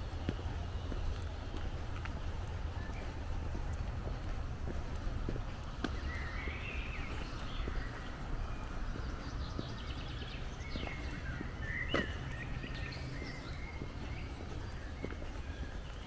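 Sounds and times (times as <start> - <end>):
footsteps on gravel: 0.0 - 16.0
songbirds singing: 0.0 - 16.0
steady low rumble: 0.0 - 16.0.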